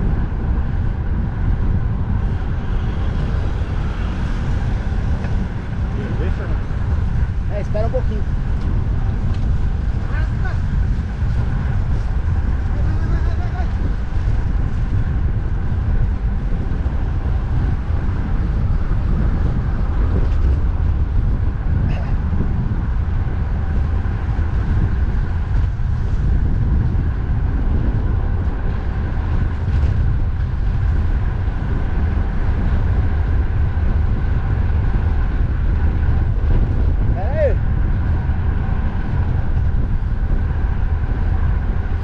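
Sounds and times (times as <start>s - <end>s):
road traffic: 0.0s - 42.0s
wind blowing across microphone: 0.0s - 42.0s.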